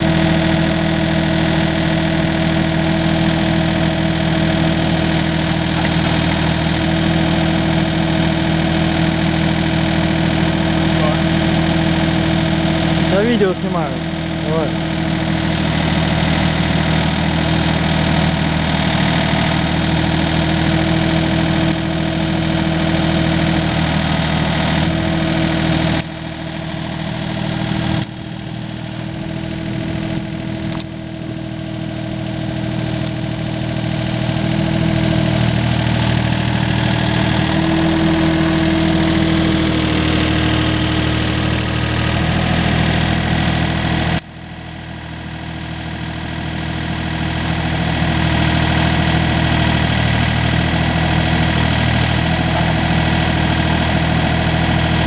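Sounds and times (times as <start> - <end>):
mini loader engine running: 0.0 - 55.0.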